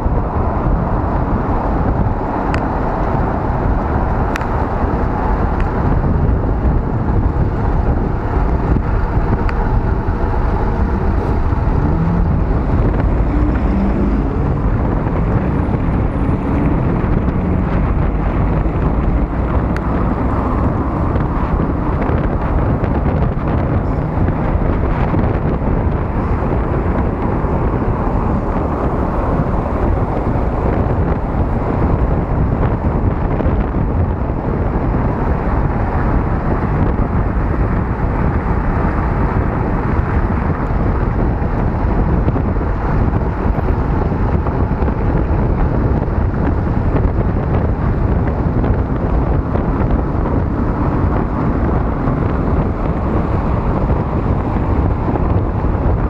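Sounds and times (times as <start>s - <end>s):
car traffic: 0.0s - 56.0s
wind noise on microphone: 0.0s - 56.0s.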